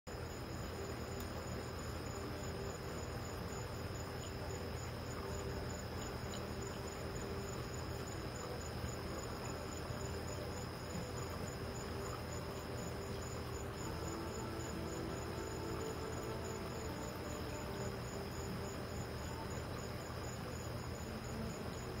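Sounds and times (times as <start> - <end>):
crickets chirping: 0.1 - 22.0
low steady hum: 0.1 - 22.0.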